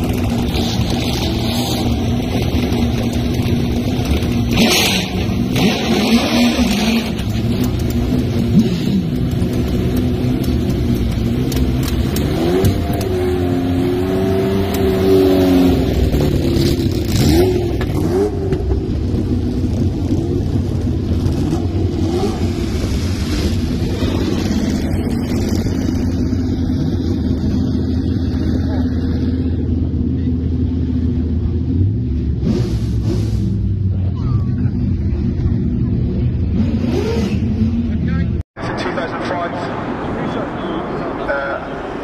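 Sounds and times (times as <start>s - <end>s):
racing car engine revving: 0.0s - 42.0s.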